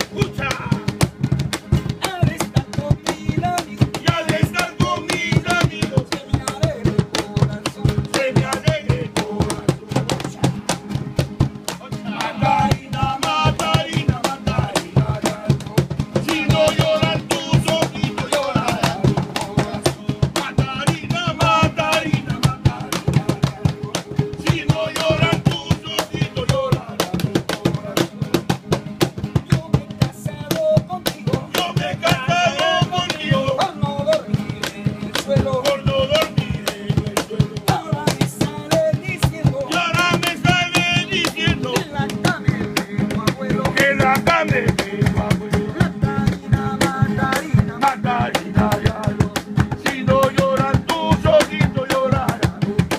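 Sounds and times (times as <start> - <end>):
acoustic guitar: 0.0 - 52.9
hand drum strokes: 0.0 - 52.9
man singing: 0.0 - 52.9.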